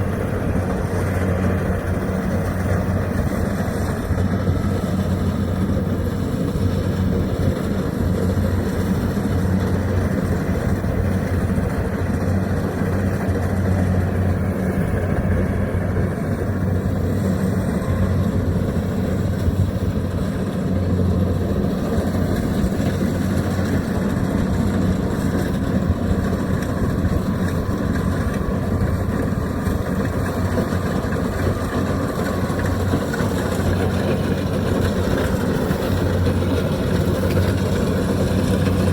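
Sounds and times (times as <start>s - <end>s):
reaper engine running: 0.0s - 38.9s.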